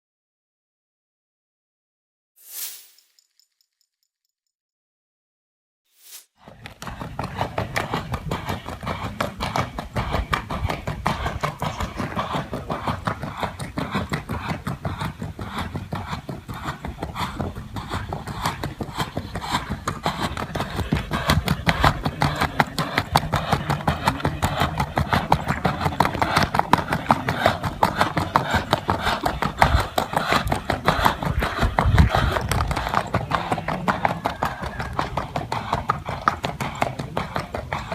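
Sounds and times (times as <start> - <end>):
horse hooves in fast rhythm: 6.4 - 37.9.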